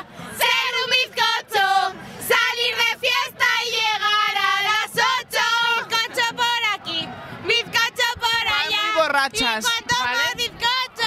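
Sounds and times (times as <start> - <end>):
women singing a chant: 0.0 - 9.0, 9.6 - 11.0.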